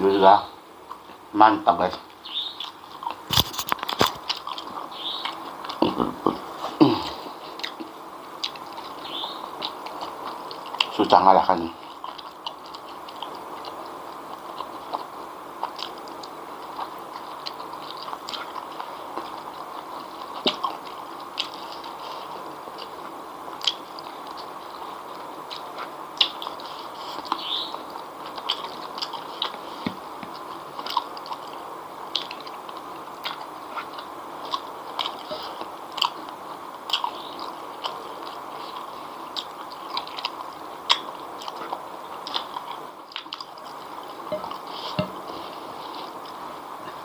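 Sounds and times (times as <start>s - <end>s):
steady background hiss: 0.0s - 47.0s
person chewing and eating: 0.8s - 47.0s.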